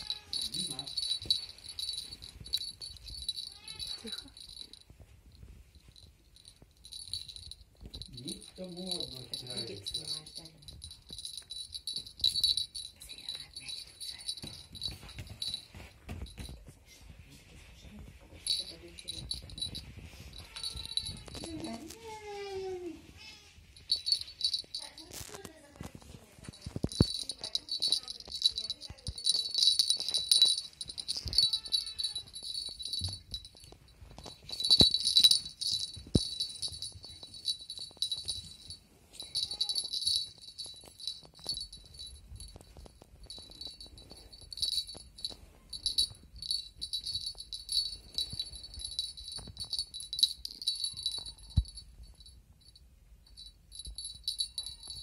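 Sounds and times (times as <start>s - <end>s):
small bell jingling: 0.0s - 55.0s.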